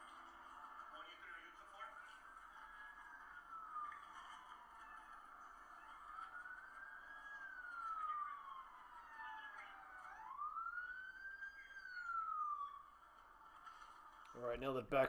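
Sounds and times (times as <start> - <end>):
police sirens wailing: 0.0 - 15.0.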